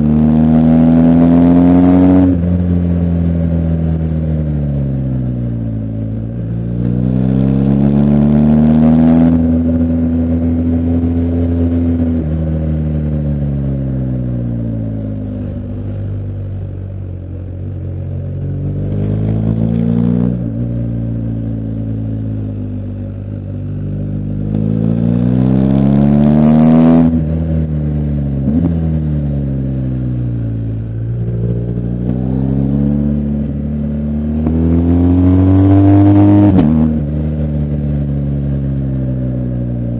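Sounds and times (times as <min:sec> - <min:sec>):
motorcycle engine revving: 0:00.0 - 0:16.7, 0:17.8 - 0:39.9.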